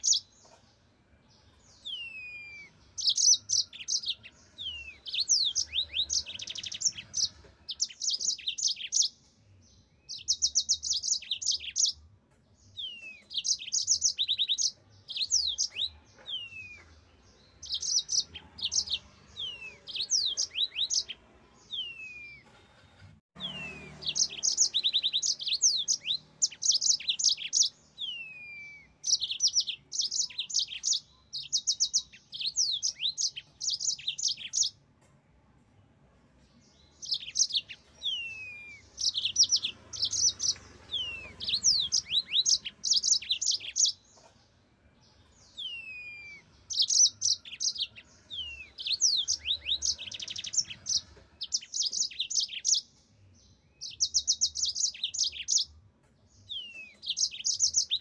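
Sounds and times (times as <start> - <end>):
canary singing trills: 0.0 - 22.6, 23.4 - 34.9, 36.6 - 58.0.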